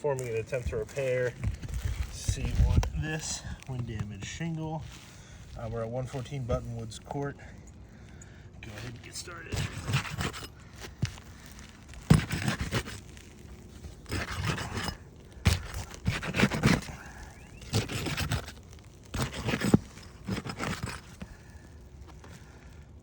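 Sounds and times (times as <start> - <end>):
rough scraping on roof shingles: 0.0 - 23.0.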